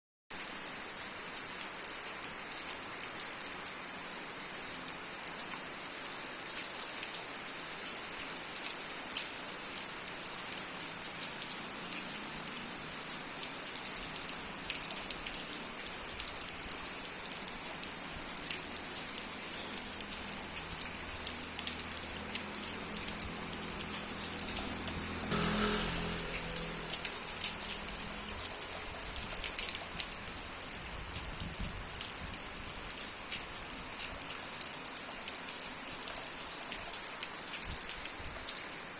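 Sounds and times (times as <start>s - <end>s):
steady rain falling: 0.3s - 38.9s.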